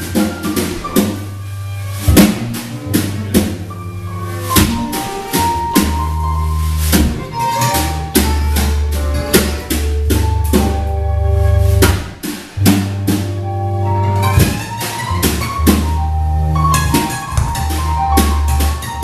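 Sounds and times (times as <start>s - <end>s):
bass line: 0.0s - 19.0s
jazz band playing dance music: 0.0s - 19.0s.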